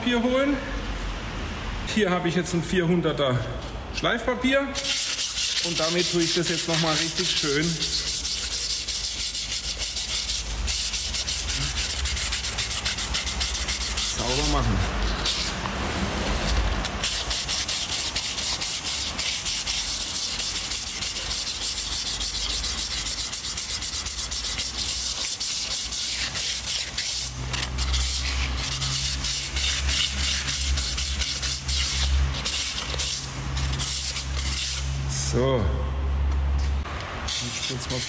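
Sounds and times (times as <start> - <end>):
sandpaper rubbing metal: 4.8 - 35.0, 37.2 - 38.0.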